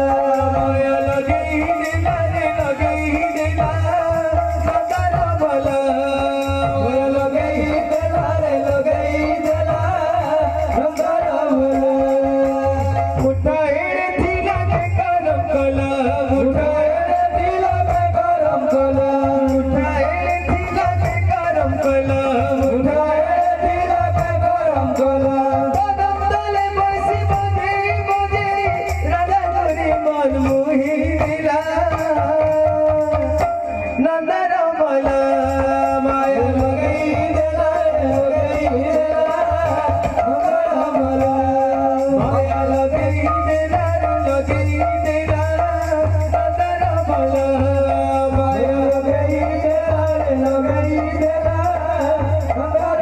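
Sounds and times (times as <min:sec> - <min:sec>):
man singing: 0:00.0 - 0:53.0.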